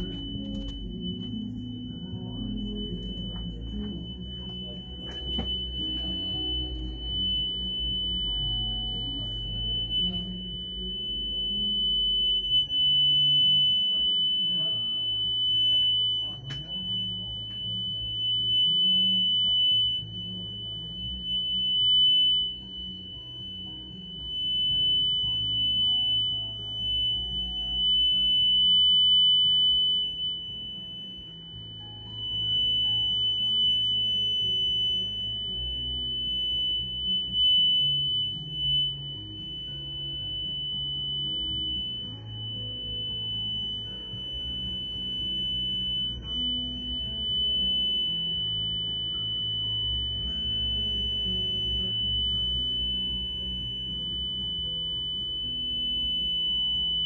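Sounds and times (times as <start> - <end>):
high-pitched sine test tone: 0.0 - 57.0
low shifting notes: 0.0 - 57.0.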